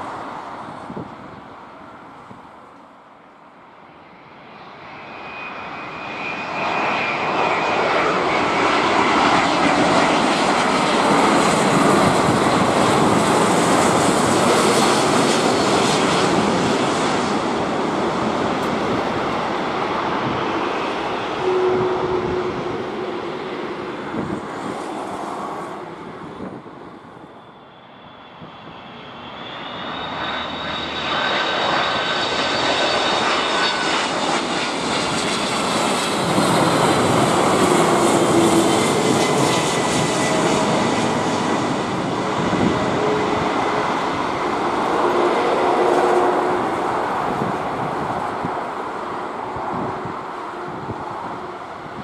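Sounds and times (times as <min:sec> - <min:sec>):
jet engines roaring on approach: 0:00.0 - 0:52.0.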